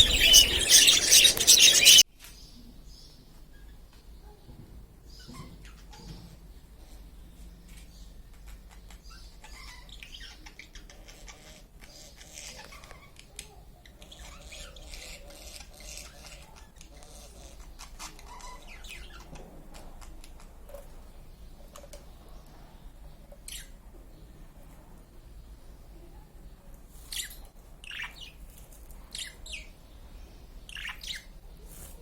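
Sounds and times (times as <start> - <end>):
small birds chirping: 0.0 - 19.4, 20.0 - 32.0.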